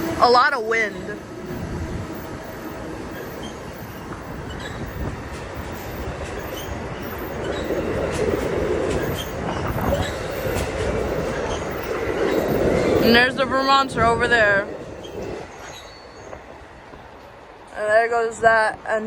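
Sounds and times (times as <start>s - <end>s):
train noise: 0.0s - 19.0s
wind buffeting microphone: 0.0s - 19.0s.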